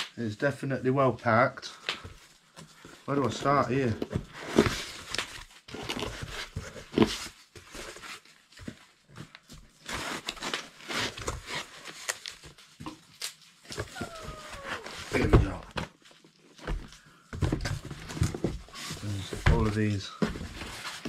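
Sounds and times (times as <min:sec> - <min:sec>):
cardboard and foam rustling: 0:01.7 - 0:21.0.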